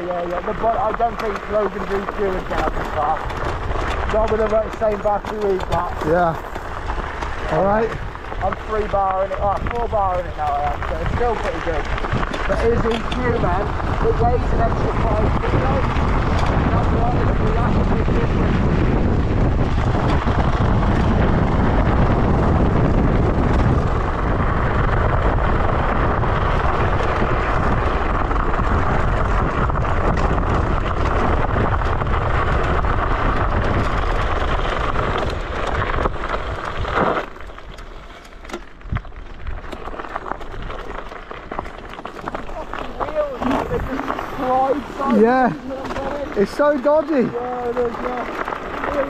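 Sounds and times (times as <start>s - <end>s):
wind rushing over microphone: 0.0s - 38.0s, 38.8s - 49.0s
electric scooter rumbling: 0.0s - 49.0s.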